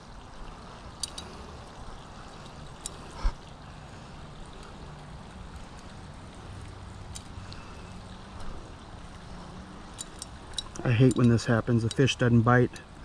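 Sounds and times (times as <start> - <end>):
trickling water: 0.0 - 13.0.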